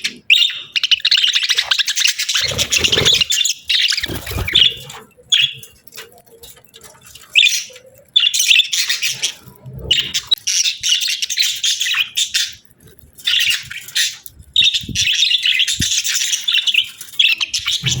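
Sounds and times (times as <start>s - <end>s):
budgies chattering: 0.0s - 5.8s, 7.0s - 12.6s, 13.2s - 18.0s.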